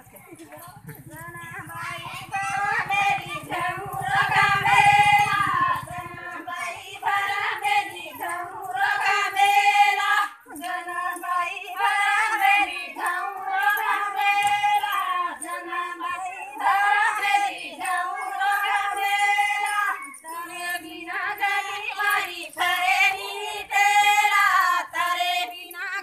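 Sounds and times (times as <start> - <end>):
women singing devotional song: 0.0 - 26.0.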